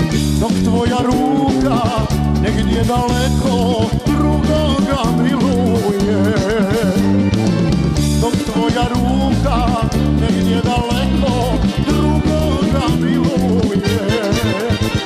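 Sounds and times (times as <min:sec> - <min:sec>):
man singing into a microphone: 0:00.0 - 0:07.3, 0:08.1 - 0:15.0
accordion: 0:00.0 - 0:15.0
drum kit and bass beat: 0:00.0 - 0:15.0.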